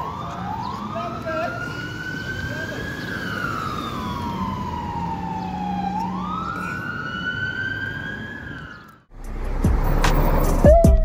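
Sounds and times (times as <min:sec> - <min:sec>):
police siren wailing: 0:00.0 - 0:09.1, 0:09.8 - 0:11.0.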